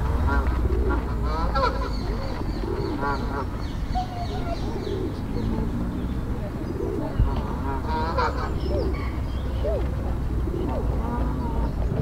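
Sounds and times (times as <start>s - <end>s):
birds chirping: 0.0s - 12.0s
steady low rumble: 0.0s - 12.0s
lower pitched bird calls: 0.6s - 12.0s.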